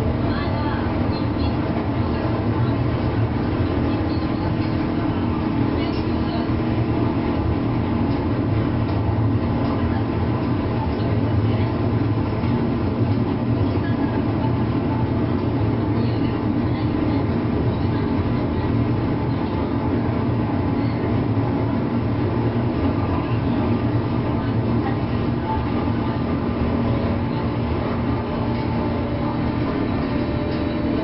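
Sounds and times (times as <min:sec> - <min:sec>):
multi-tone electric hum: 0:00.0 - 0:31.0
train rolling noise: 0:00.0 - 0:31.0.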